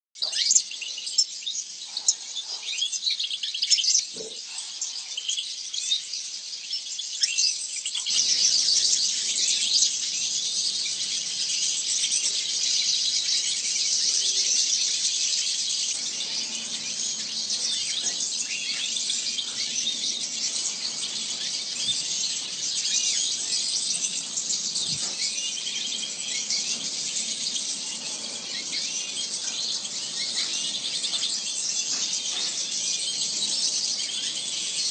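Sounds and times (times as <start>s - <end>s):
small birds chirping and twittering: 0.2s - 34.9s.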